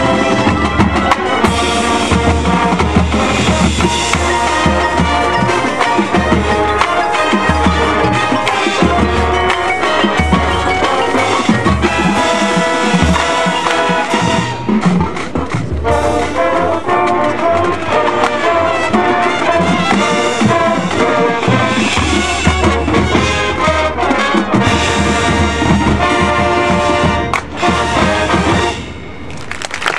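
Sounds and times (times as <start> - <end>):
marching band playing: 0.0 - 29.9.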